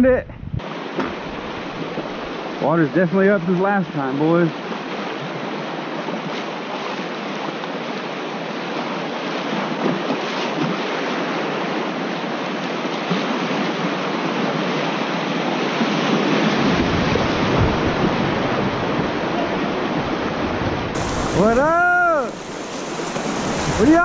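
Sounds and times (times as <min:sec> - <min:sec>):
low rumble of rough water: 0:00.0 - 0:24.0
river current rushing: 0:00.6 - 0:24.0.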